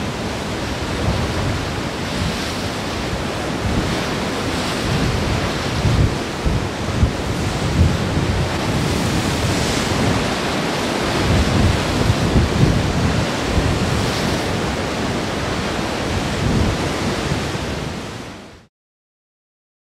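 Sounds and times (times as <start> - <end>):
wind buffeting microphone: 0.0 - 18.3
ocean surf breaking on rocks: 0.0 - 18.5.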